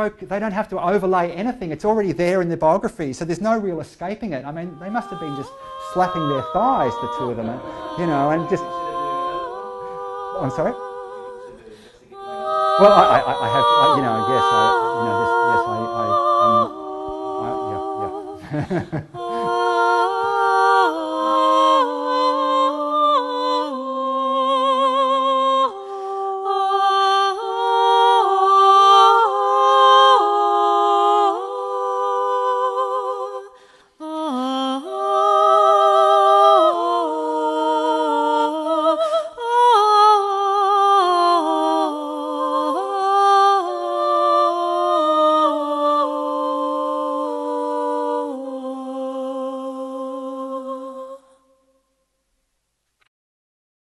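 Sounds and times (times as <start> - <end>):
voices singing in harmony: 0.0 - 51.6.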